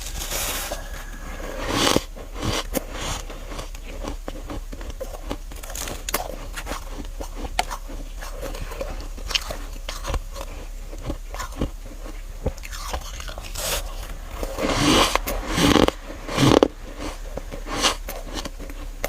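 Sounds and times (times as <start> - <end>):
crunching bite of ice frost: 0.0 - 19.0
small crunches and crackles: 0.0 - 19.0.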